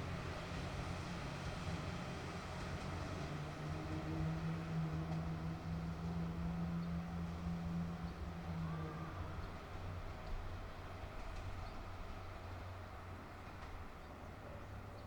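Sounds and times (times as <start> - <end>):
diesel railcar engine drone: 0.0 - 15.0.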